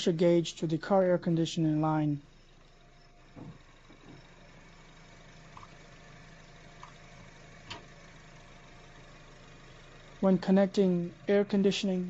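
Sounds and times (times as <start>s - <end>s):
faint car engine idling: 0.0s - 12.0s.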